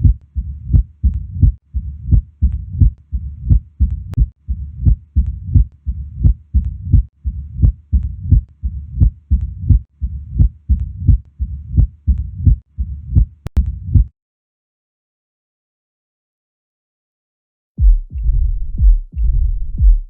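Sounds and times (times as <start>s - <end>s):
heart murmur: 0.0s - 14.1s, 17.8s - 20.0s
heartbeat through stethoscope: 0.0s - 14.1s, 17.8s - 20.0s.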